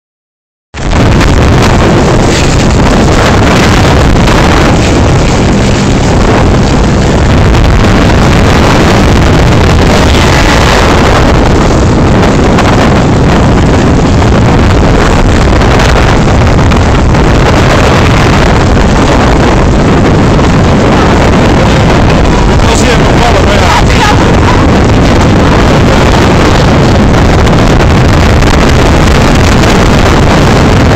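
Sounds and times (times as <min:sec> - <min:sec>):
wind buffeting microphone: 0:00.7 - 0:30.9.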